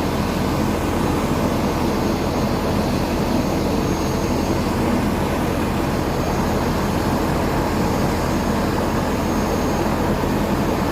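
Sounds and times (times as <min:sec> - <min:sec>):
aircraft engine rushing: 0:00.0 - 0:10.9
faint high whine: 0:00.0 - 0:10.9.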